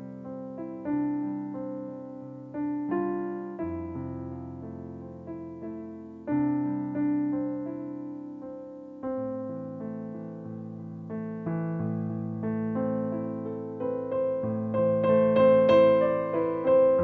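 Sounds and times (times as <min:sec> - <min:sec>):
solo piano ballad: 0:00.0 - 0:17.0.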